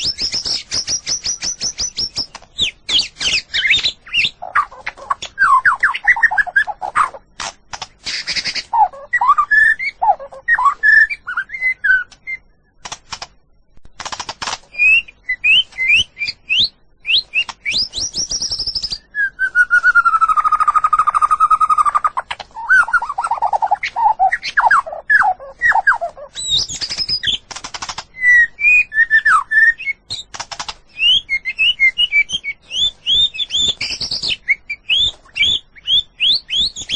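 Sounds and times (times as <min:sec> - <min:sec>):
bird singing whistles and trills: 0:00.0 - 0:07.3, 0:08.1 - 0:12.8, 0:14.7 - 0:27.4, 0:28.1 - 0:36.9.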